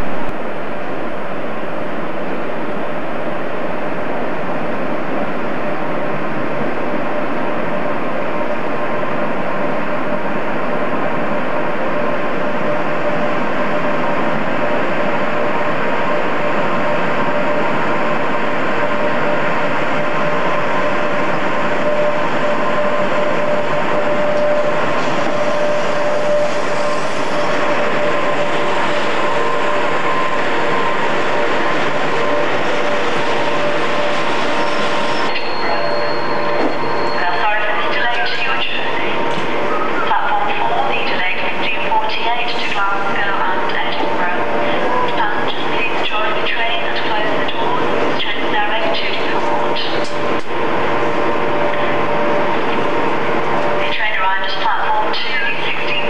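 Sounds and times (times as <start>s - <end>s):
locomotive hum: 0.0s - 56.0s
train rumbling: 0.0s - 56.0s.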